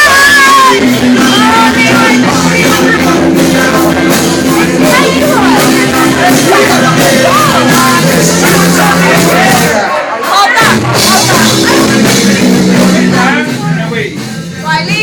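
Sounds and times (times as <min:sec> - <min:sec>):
voices shouting: 0:00.0 - 0:13.4
loud rock music with singing: 0:00.0 - 0:15.0.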